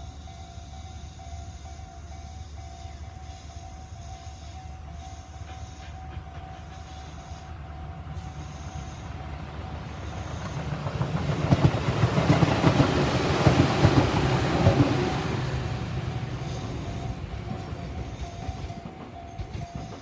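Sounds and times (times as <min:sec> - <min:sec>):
electric train passing: 0:00.0 - 0:20.0
train wheels clicking over rail joints: 0:00.0 - 0:20.0.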